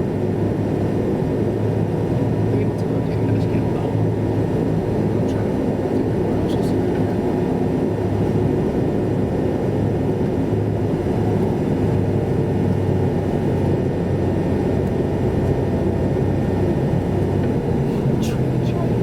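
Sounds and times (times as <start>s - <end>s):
road and engine noise in car: 0.0s - 19.0s.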